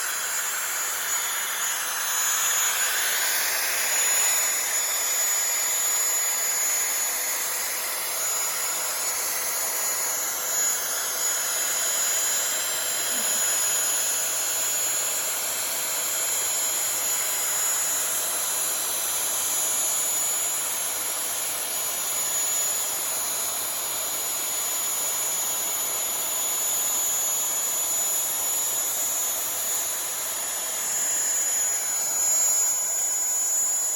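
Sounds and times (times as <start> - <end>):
router spindle milling metal: 0.0 - 33.9.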